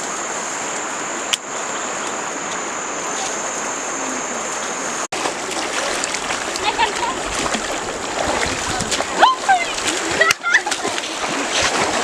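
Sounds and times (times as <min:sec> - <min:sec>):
water flowing: 0:00.0 - 0:12.0.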